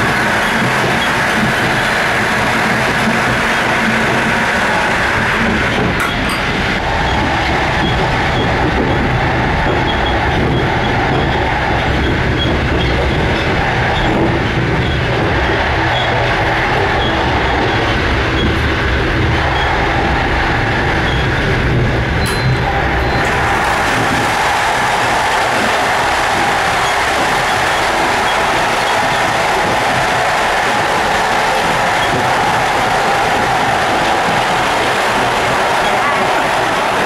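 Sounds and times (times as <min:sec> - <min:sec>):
train car body rattling: 0:00.0 - 0:37.0
train wheels on rails: 0:00.0 - 0:37.0.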